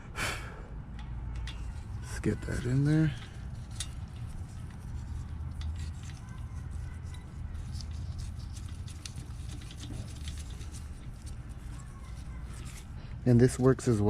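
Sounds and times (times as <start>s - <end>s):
steady low hum: 0.0s - 14.0s
small metallic clicks and taps: 0.9s - 12.9s.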